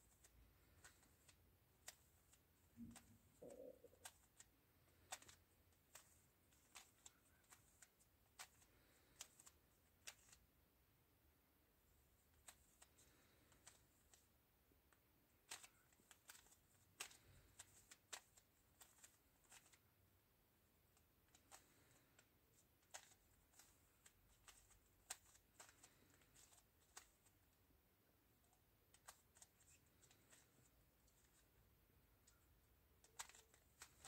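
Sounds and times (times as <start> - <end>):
plastic puzzle cube clicking: 0.1 - 10.5, 12.2 - 14.3, 15.4 - 19.8, 20.9 - 27.6, 28.4 - 31.6, 32.2 - 34.0.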